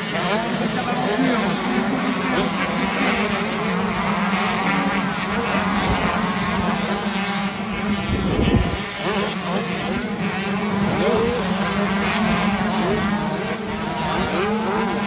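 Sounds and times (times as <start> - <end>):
motocross bikes racing: 0.0 - 15.0
motorbike revving up sharply: 0.0 - 15.0.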